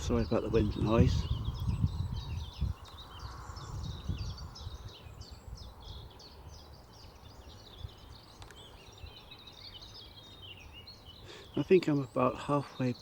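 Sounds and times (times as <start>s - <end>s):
wind buffeting microphone: 0.0s - 11.1s
birds twittering: 0.0s - 13.0s.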